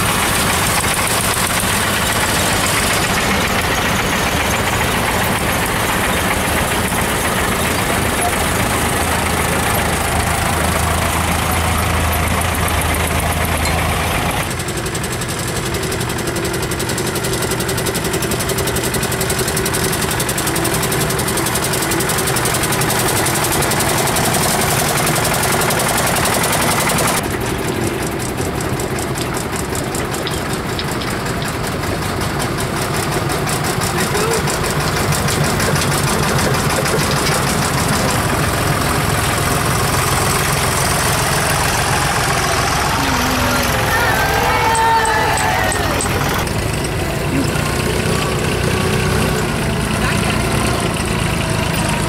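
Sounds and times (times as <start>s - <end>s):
small truck engines driving past: 0.0s - 52.0s
tractor engine driving past: 0.0s - 52.0s.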